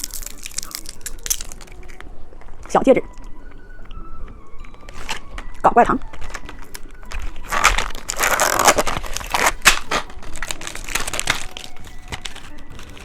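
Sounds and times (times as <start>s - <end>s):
plastic candy wrapper crinkling: 0.0s - 13.0s.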